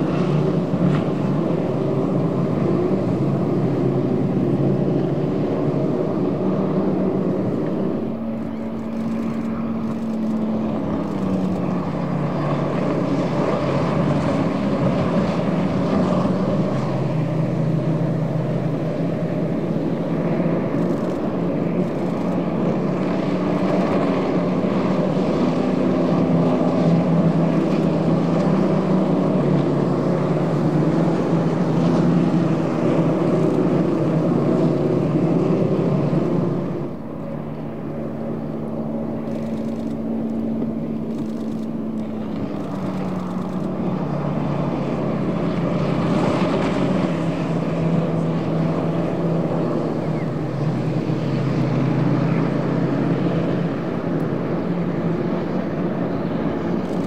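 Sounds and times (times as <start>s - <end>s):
racing engines running hard: 0.0s - 57.0s.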